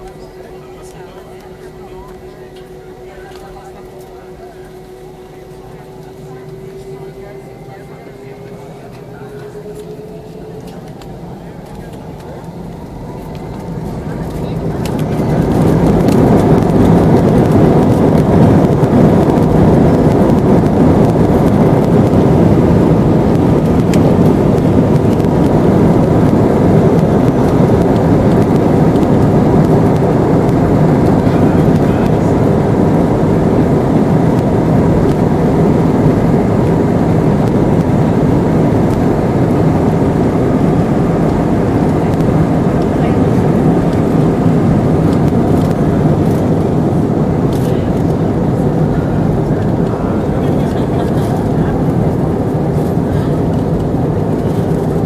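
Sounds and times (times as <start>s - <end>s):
airliner engine and airflow noise: 0.0s - 55.0s.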